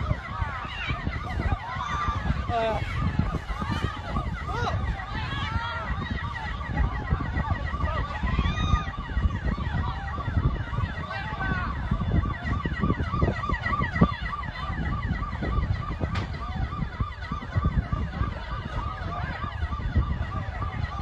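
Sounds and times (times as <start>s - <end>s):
dense low rumble: 0.0s - 21.0s
emergency sirens yelping: 0.0s - 21.0s.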